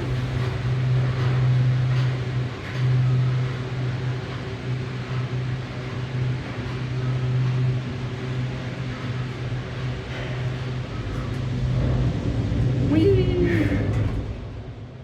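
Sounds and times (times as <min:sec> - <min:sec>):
cable car cabin hum: 0:00.0 - 0:15.0.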